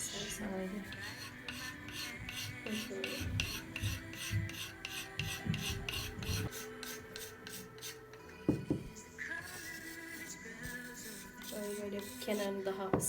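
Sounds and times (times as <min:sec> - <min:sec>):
hand tool scraping clay: 0:00.0 - 0:13.0.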